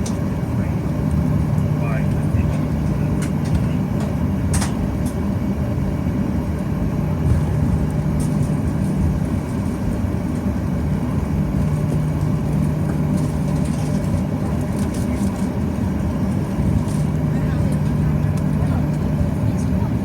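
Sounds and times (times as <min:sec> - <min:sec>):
aircraft engines low rumble: 0:00.0 - 0:20.0
constant cabin hum: 0:00.0 - 0:20.0.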